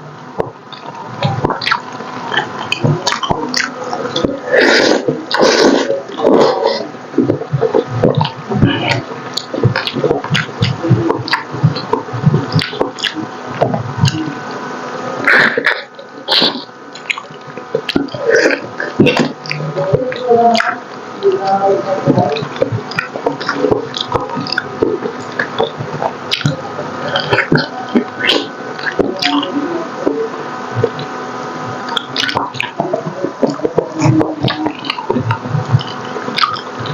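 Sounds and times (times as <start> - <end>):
wet chewing and lip-smacking: 0.4 - 36.9.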